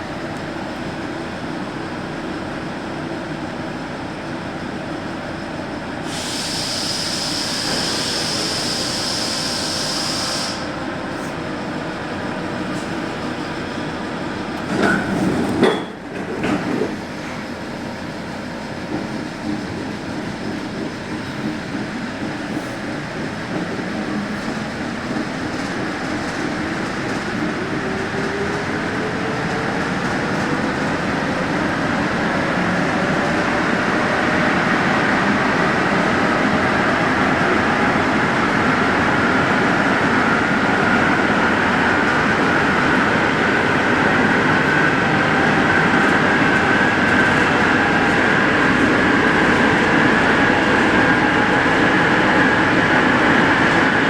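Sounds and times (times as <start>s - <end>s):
metro train running: 0.0s - 54.0s
rising whine of train: 0.0s - 54.0s.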